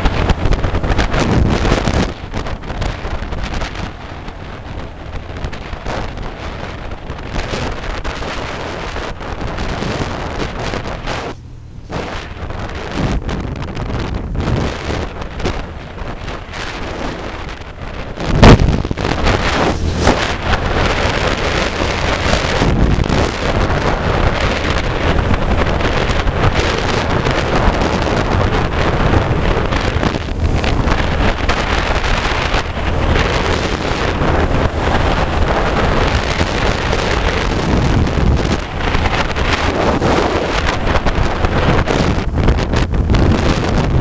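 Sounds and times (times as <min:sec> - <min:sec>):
vehicle engine and tyres drone: 0:00.0 - 0:44.0
wind buffeting microphone: 0:00.0 - 0:44.0.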